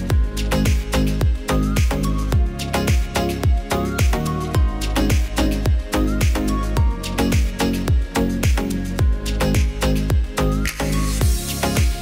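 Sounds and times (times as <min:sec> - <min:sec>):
steady kick-drum beat: 0:00.0 - 0:12.0
upbeat electronic music: 0:00.0 - 0:12.0.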